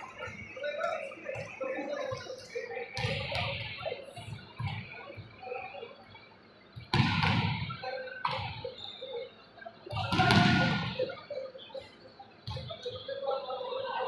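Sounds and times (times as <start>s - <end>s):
burst of noise in a hall: 0.0s - 14.0s.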